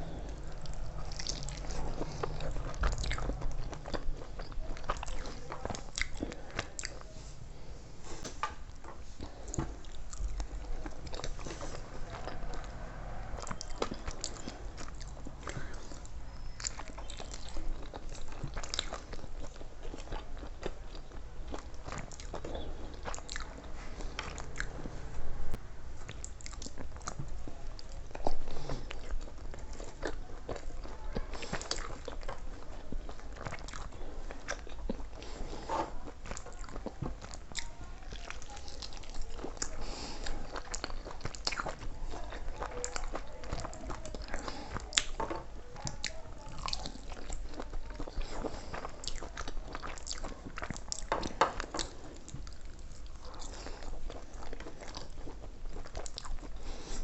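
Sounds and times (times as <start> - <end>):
person chewing and crunching: 0.0 - 25.1, 25.9 - 57.0.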